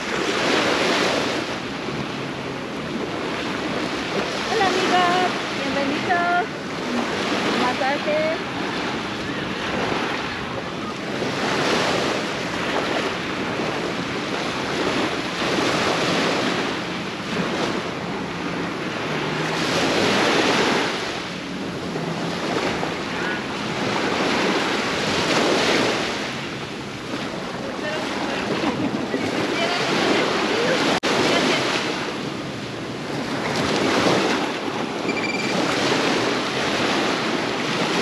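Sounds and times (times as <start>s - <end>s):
sea waves breaking on beach: 0.0s - 38.0s.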